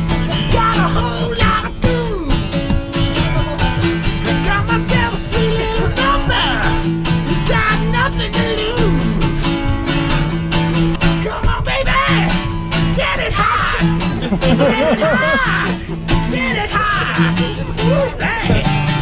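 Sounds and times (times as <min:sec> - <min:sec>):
acoustic guitar strumming: 0:00.0 - 0:19.0
person singing: 0:00.3 - 0:09.7, 0:11.1 - 0:18.8.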